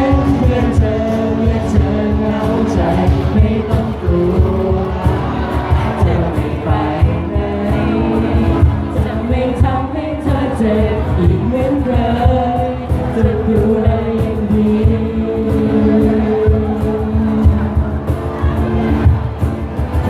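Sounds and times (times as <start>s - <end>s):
pop song with steady beat: 0.0s - 19.1s.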